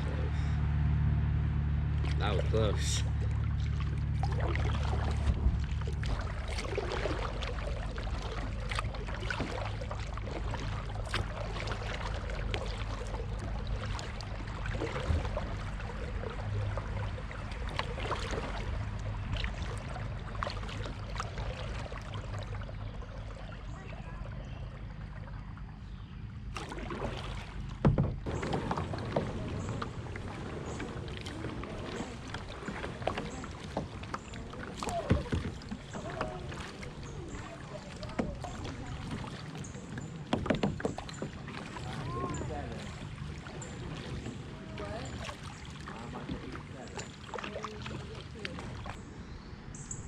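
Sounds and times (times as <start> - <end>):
water splashing and rushing: 0.0 - 50.0
paddle knocking on kayak: 2.0 - 23.6, 26.5 - 49.0.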